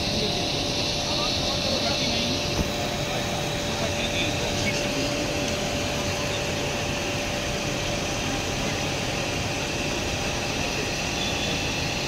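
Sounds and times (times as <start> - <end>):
fan whirring: 0.0 - 12.0.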